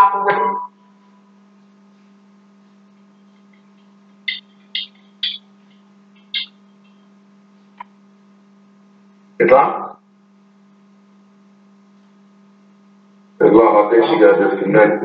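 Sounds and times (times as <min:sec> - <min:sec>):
electrical hum on phone line: 0:00.0 - 0:15.0.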